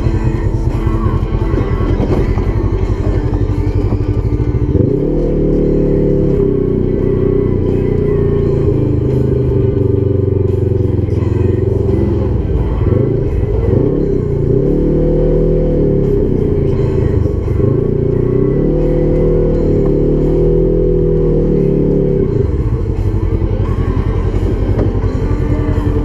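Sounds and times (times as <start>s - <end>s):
background music: 0.0s - 26.0s
side-by-side engine revving: 0.0s - 26.0s.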